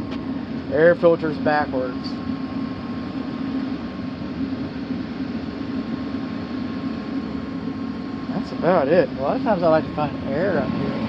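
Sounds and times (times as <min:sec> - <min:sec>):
air handler blower hum: 0:00.0 - 0:11.0.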